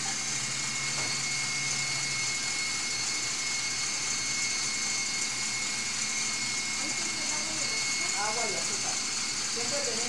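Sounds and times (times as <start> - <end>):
electric mixer whirring: 0.0 - 10.0.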